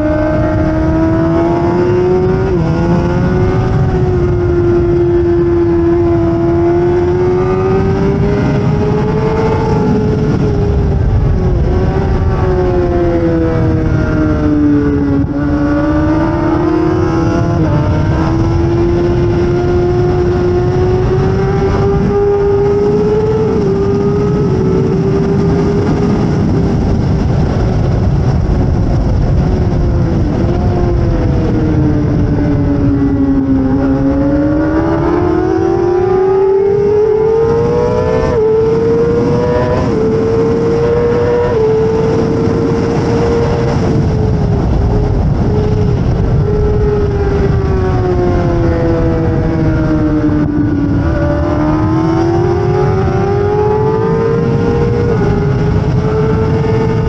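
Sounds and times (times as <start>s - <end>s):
motorcycle engine revving high: 0.0s - 57.0s
wind rush: 0.0s - 57.0s.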